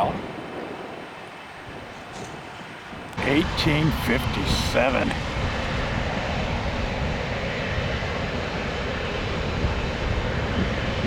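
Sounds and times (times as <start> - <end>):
jet engines rumbling and hissing: 0.0 - 11.0.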